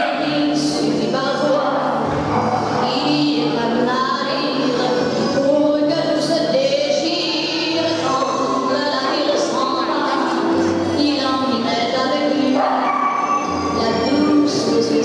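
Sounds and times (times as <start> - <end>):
woman singing: 0.0 - 2.0, 2.8 - 15.0
steady musical accompaniment: 0.0 - 15.0.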